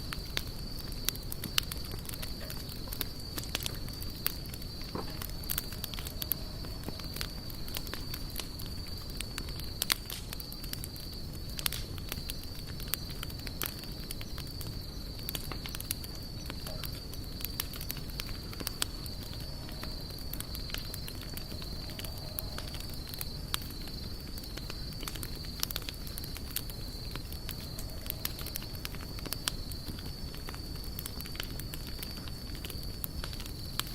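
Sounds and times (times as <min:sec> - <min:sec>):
campfire crackling and popping: 0:00.0 - 0:33.9
low rumble of burning: 0:00.0 - 0:33.9.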